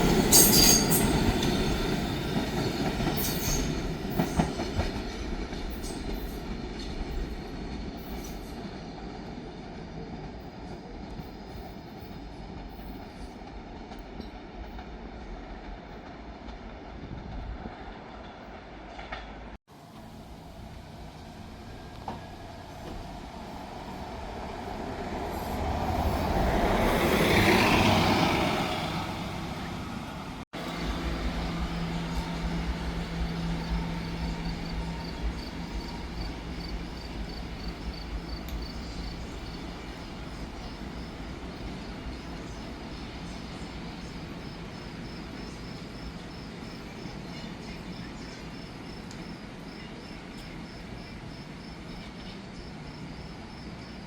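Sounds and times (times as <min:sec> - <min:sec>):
train passing by: 0:00.0 - 0:54.0.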